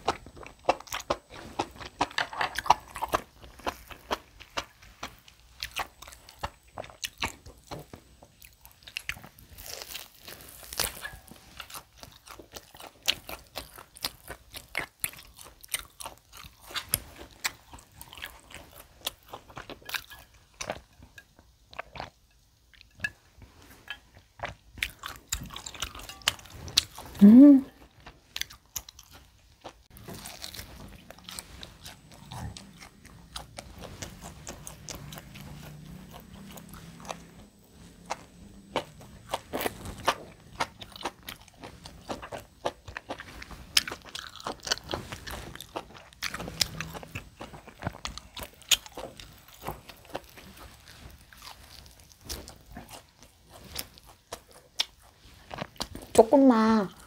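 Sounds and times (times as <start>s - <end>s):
person chewing and crunching meat: 0.0s - 57.0s.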